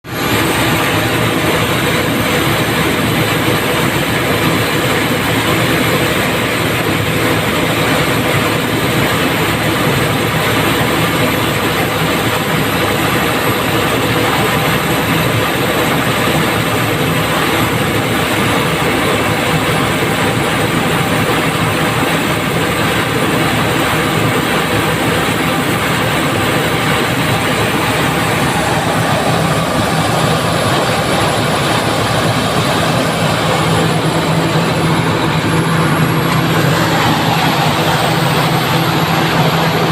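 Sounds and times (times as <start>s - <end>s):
diesel generator engine drone: 0.0s - 39.9s.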